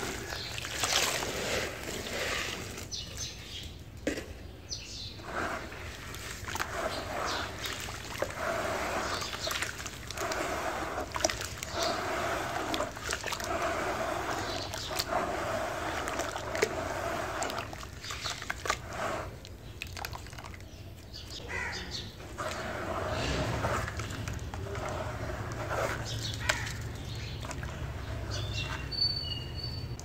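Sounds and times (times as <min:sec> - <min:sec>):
wet dirt squelching in water: 0:00.0 - 0:03.7, 0:05.1 - 0:30.0.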